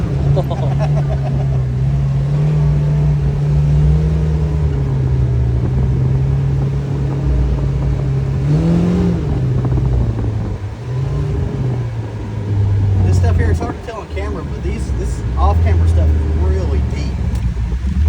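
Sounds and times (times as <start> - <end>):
engine revving under varying throttle: 0.0 - 18.0.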